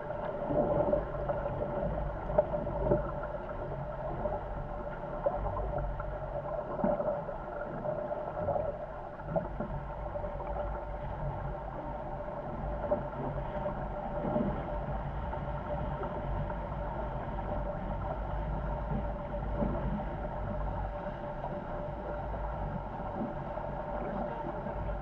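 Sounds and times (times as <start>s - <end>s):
deep rumble: 0.0s - 25.0s
steady hum: 0.0s - 25.0s.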